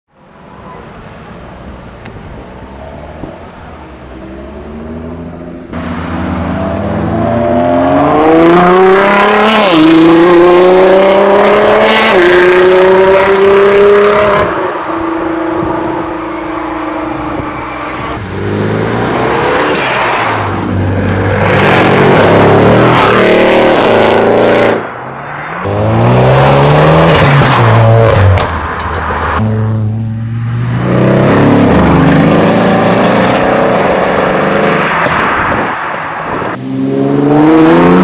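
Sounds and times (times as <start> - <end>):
sports car engines accelerating: 1.6 - 28.5, 29.2 - 38.0.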